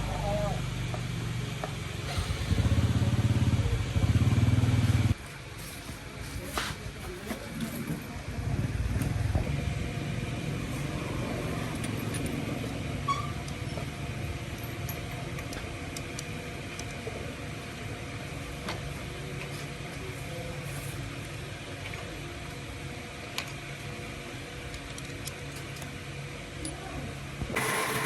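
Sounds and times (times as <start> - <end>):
motor rumbling: 0.0 - 28.0.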